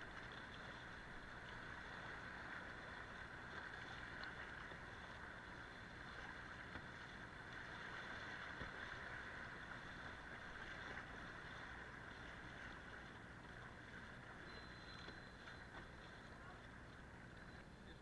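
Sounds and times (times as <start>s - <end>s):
river water rushing and splashing: 0.0s - 14.5s.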